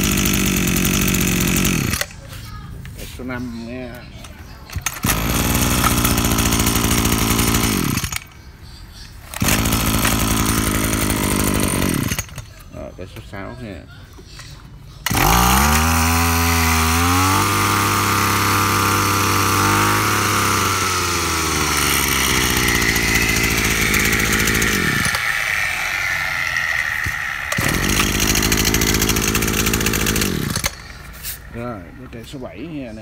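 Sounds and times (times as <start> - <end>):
brush cutter engine revving: 0.0 - 2.3, 3.0 - 8.4, 9.3 - 12.9, 15.0 - 32.3.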